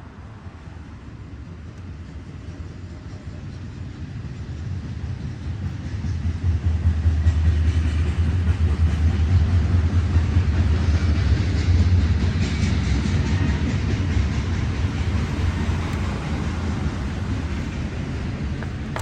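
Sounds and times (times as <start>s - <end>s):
diesel locomotive engine rumble: 0.0s - 19.0s
wheels clattering on rail: 1.9s - 19.0s.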